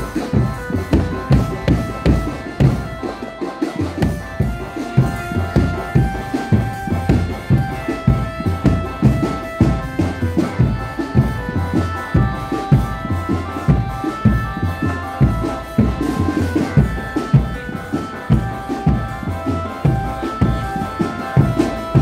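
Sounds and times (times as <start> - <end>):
bass and snare drums beating: 0.0 - 22.0
held melodic notes: 0.0 - 22.0.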